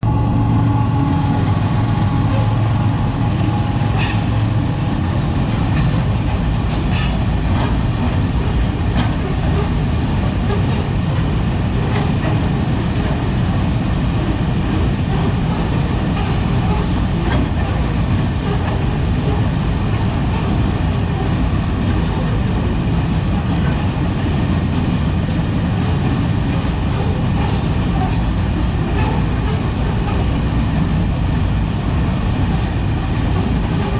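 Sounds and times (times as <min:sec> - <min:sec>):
train wagons rumbling on rails: 0:00.0 - 0:33.9.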